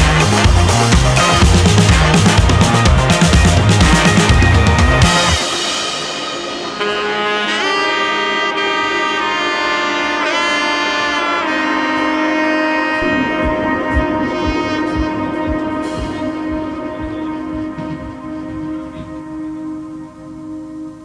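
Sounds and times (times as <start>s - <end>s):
instrumental music with pitch slides: 0.0s - 21.0s
low sustained accompaniment: 2.7s - 21.0s.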